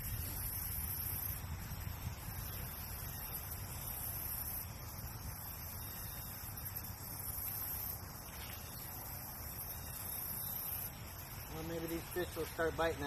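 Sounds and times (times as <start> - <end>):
high even hiss: 0.0 - 13.0.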